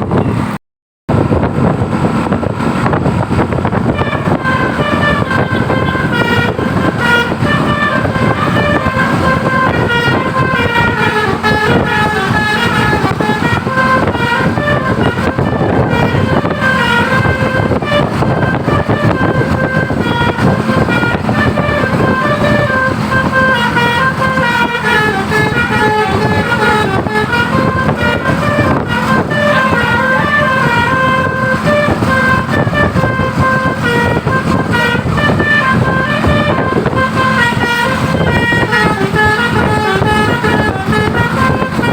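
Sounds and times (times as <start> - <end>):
low rumble: 0.0 - 41.9
musical bus horn melody: 2.6 - 41.9.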